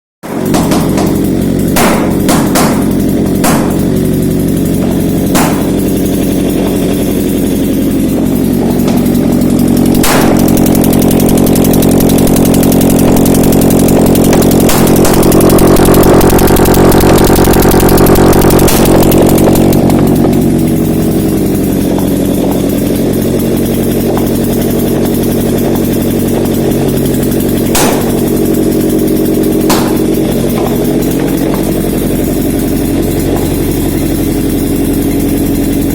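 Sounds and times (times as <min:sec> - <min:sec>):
engine idling and revving: 0:00.2 - 0:35.9.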